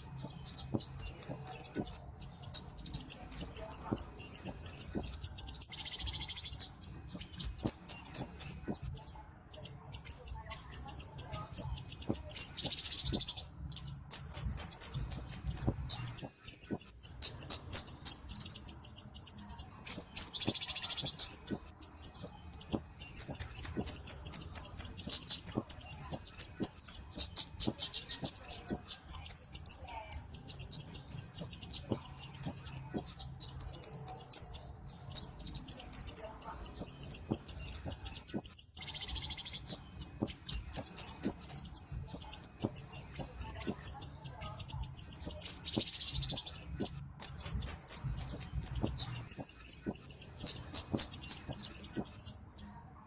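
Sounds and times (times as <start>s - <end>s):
bird chirping rapidly: 0.0s - 52.7s.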